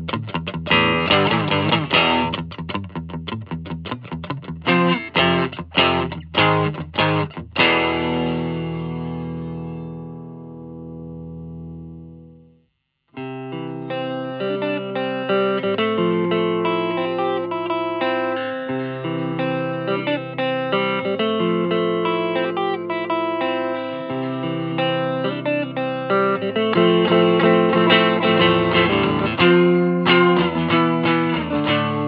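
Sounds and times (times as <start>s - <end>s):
electric guitar chords: 0.0s - 12.6s, 13.2s - 32.0s.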